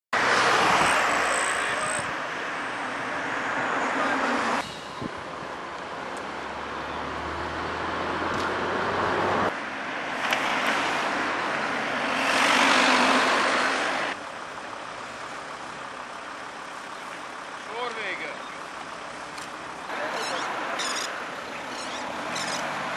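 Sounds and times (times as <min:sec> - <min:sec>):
vehicles passing on road: 0:00.2 - 0:22.9.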